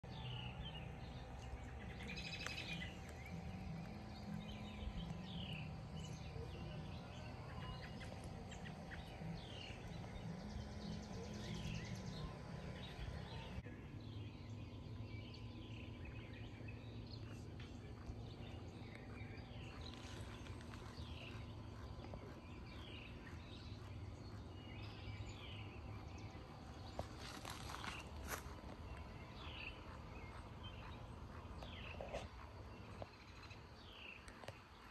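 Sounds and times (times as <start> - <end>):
birds chirping: 0.0 - 34.9
faint outdoor drone: 0.0 - 34.9.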